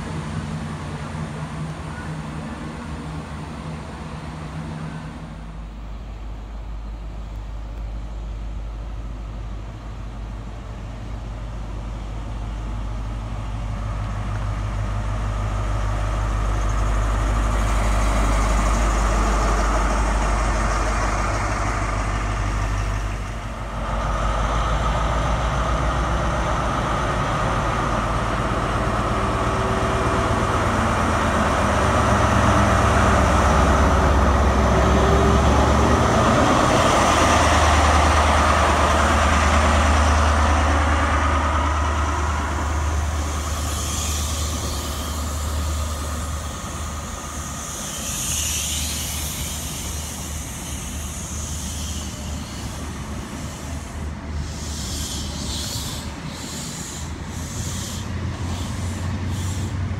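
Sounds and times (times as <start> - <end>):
diesel train engine rumble: 0.0 - 59.9.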